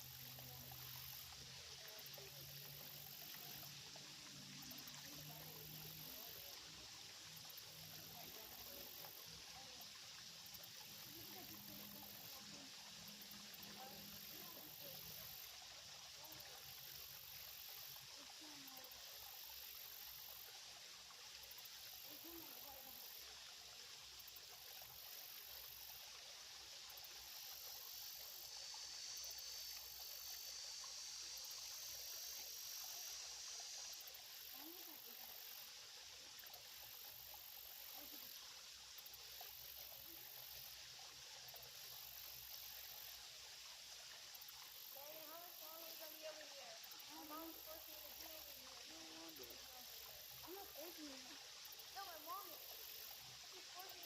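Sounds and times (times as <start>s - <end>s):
creek water trickling: 0.0s - 54.0s.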